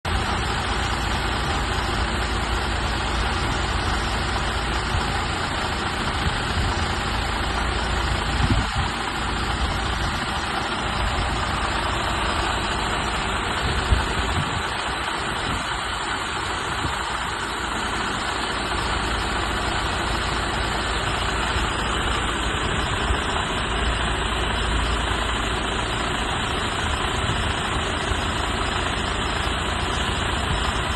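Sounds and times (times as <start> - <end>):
diesel bus engine idling: 0.0 - 30.9.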